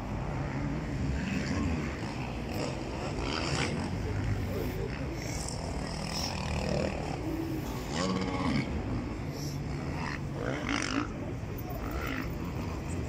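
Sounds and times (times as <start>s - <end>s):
distant racing engines droning: 0.0s - 13.0s.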